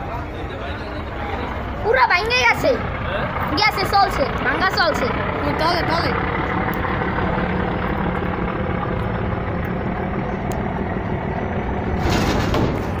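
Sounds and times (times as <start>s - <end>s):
boat diesel engines humming: 0.0s - 13.0s.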